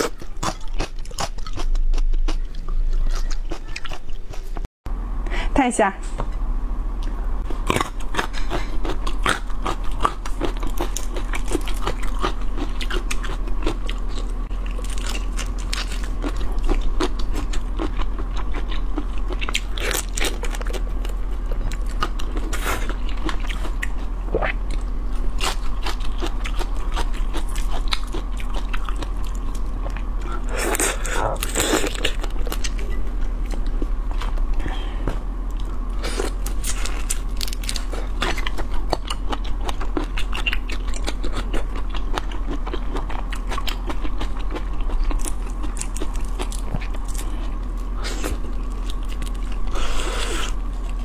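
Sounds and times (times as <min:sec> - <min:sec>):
chewing prawns with shell crunching: 0:00.0 - 0:04.7, 0:07.4 - 0:51.0
steady low hum: 0:00.0 - 0:51.0.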